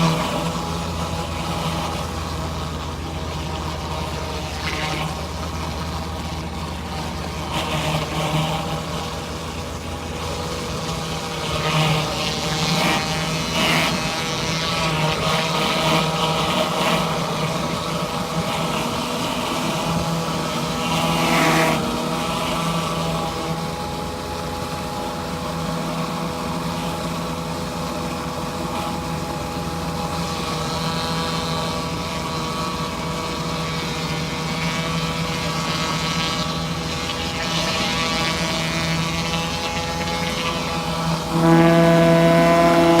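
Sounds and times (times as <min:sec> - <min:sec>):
pressure washer engine running: 0:00.0 - 0:43.0.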